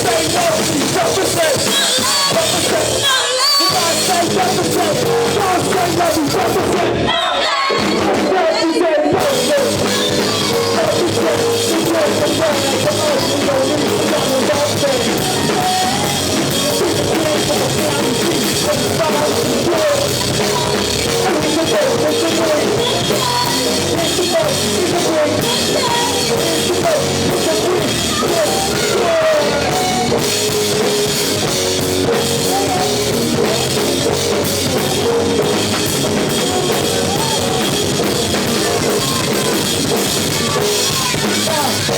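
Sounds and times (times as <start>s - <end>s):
drum kit: 0.0s - 7.1s, 7.7s - 41.9s
live rock band playing: 0.0s - 41.9s.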